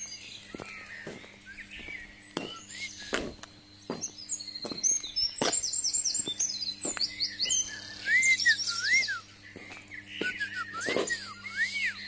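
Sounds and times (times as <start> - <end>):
songbirds chirping: 0.0 - 12.0
low looping whistled notes: 1.3 - 12.0.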